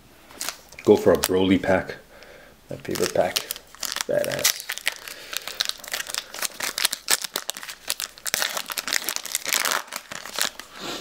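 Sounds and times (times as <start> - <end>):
foil wrapper crinkling: 0.3 - 1.5, 2.8 - 10.8.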